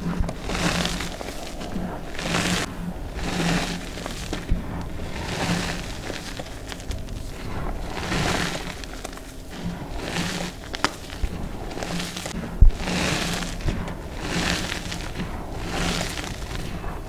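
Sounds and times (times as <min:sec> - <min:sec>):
hands crunching chalk powder: 0:00.0 - 0:17.0.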